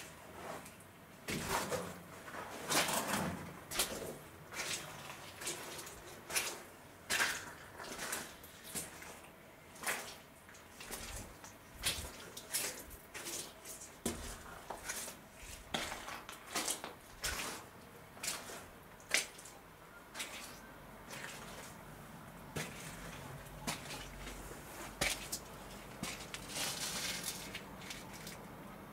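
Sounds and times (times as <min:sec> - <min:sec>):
footsteps squelching through mud: 0:01.3 - 0:28.5.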